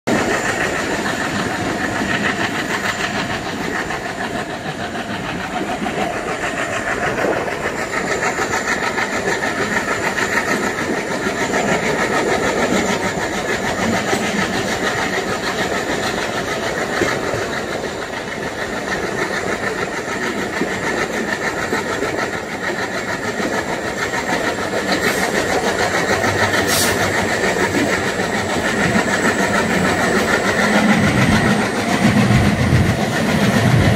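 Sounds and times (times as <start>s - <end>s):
diesel locomotive engines chugging: 0.1s - 33.9s.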